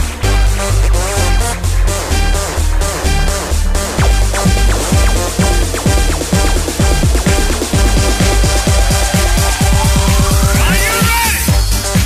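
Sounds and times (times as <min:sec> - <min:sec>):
rising synth sweep: 0:00.0 - 0:11.6
electronic dance music: 0:00.0 - 0:12.0.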